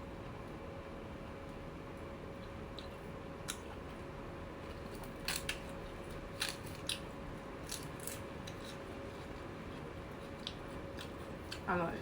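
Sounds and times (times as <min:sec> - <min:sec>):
faint steady hum: 0:00.0 - 0:12.0
crisp eating crunches: 0:02.4 - 0:12.0.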